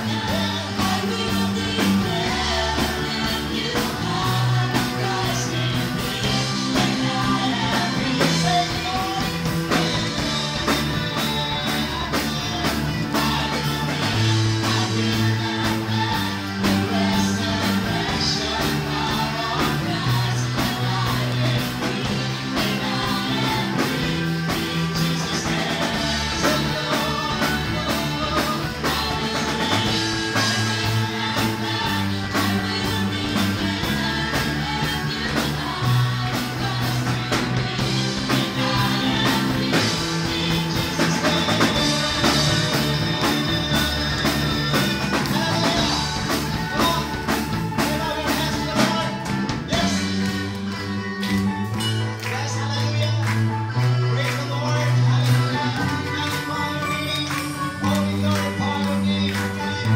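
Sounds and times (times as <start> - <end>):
person singing: 0.0 - 51.1, 52.3 - 59.9
steady drum beat: 0.0 - 52.4
live band playing upbeat song: 0.0 - 59.9.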